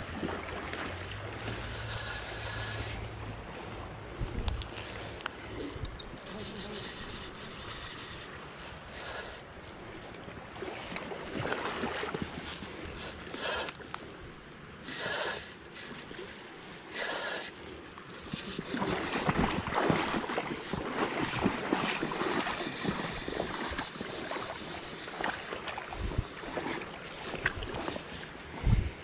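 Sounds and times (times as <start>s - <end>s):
creek water rushing and splashing: 0.0s - 28.8s.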